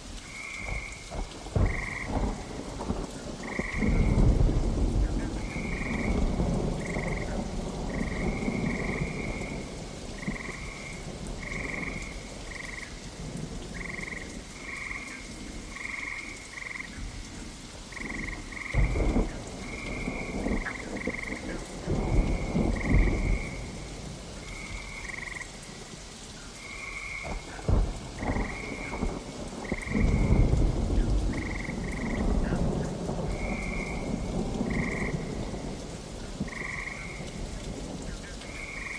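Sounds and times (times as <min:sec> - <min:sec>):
steady rain: 0:00.0 - 0:38.9
frogs croaking: 0:00.2 - 0:38.9
thunder rumbling: 0:00.3 - 0:25.9, 0:26.6 - 0:38.9.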